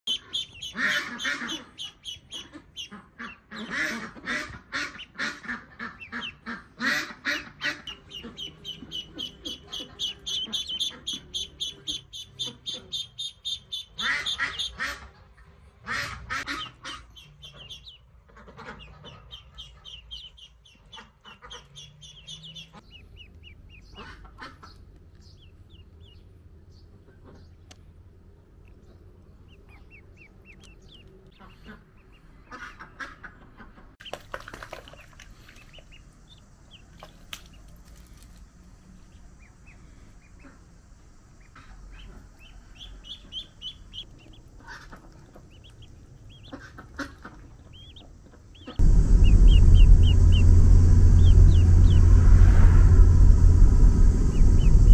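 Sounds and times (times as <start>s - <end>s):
ducklings peeping: 0.0s - 15.2s, 15.8s - 52.1s.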